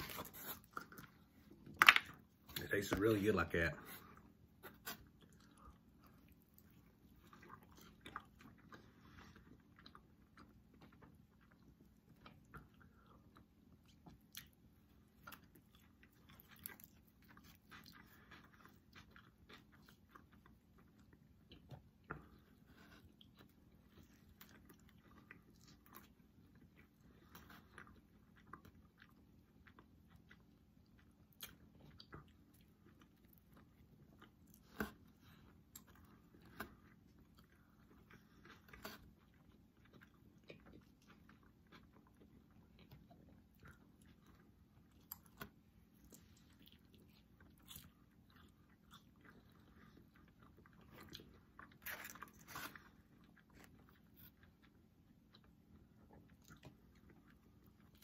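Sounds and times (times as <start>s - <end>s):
faint chewing and crunching: 0.0s - 58.0s.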